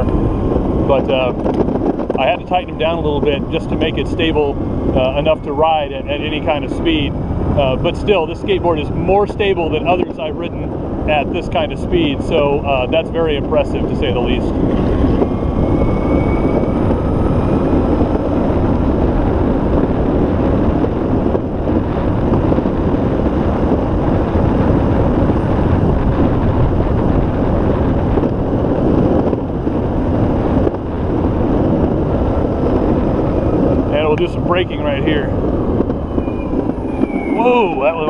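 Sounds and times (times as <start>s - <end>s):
skateboard wheels rumbling on pavement: 0.0s - 38.0s
wind on microphone: 0.0s - 38.0s.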